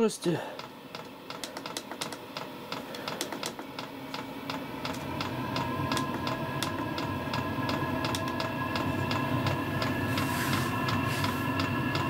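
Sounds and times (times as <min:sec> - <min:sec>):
blower fan humming: 0:00.0 - 0:12.0.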